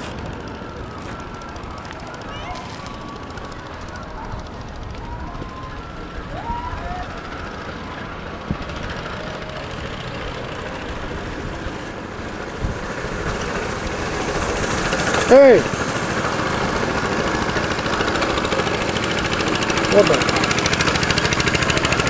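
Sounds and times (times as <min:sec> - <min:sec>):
go-kart engines running: 0:00.0 - 0:22.0.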